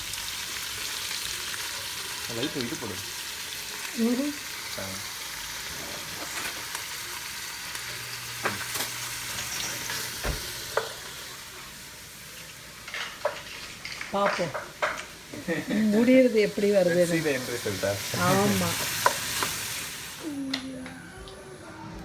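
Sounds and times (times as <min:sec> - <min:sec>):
onions sizzling in hot oil: 0:00.0 - 0:20.4.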